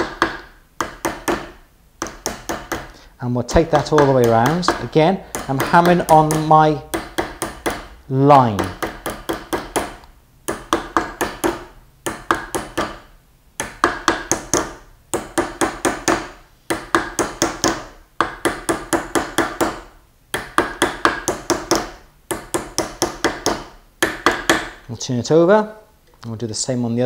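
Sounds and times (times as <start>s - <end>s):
hammer striking copper: 0.0s - 24.8s.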